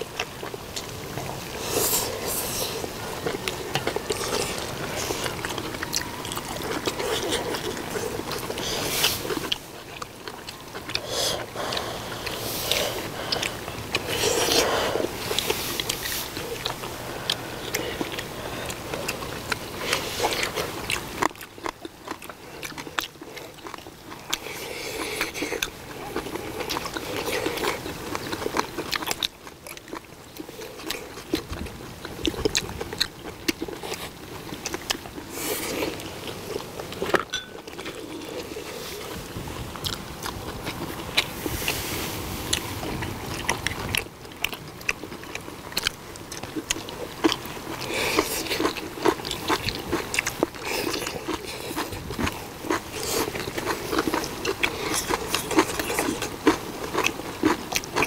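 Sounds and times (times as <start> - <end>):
people chewing and biting: 0.0 - 58.0.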